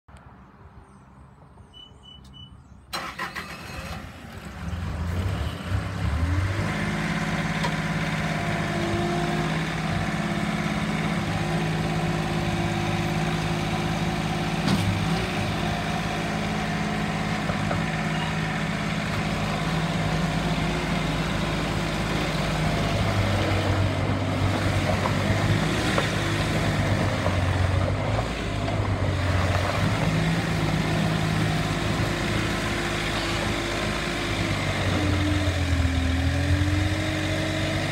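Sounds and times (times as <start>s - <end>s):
diesel engine cranking and running: 2.9s - 37.9s.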